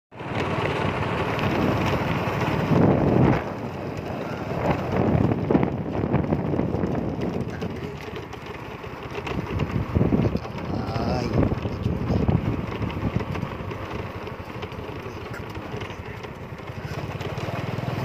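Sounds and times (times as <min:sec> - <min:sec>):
vehicle travel noise: 0:00.1 - 0:18.0
wind buffeting microphone: 0:01.3 - 0:18.0.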